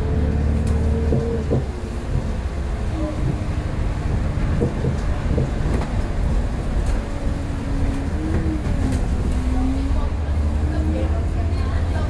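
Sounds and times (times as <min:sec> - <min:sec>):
bus body rattling: 0:00.0 - 0:12.0
bus engine rumble: 0:00.0 - 0:12.0.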